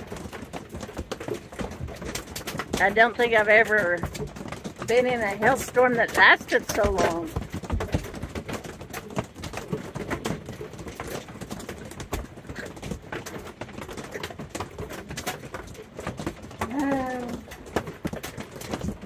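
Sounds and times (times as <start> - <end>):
hail clattering on camper roof: 0.0 - 19.0.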